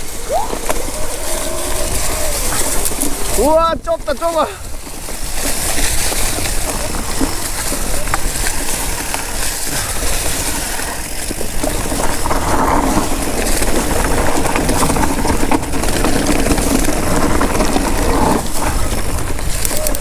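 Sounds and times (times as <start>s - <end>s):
wind and tyre noise: 0.0s - 20.0s.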